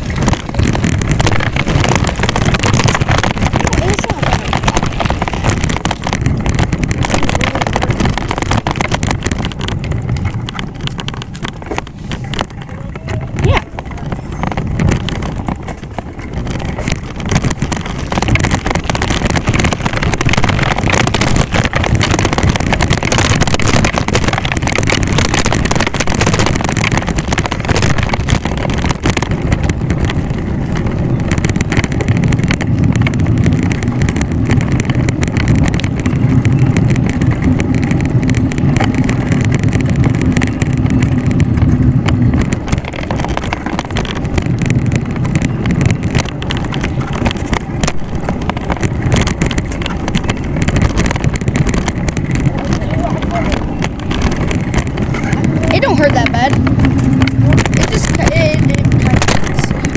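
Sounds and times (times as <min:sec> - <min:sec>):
wind rumbling on microphone: 0:00.0 - 0:59.9.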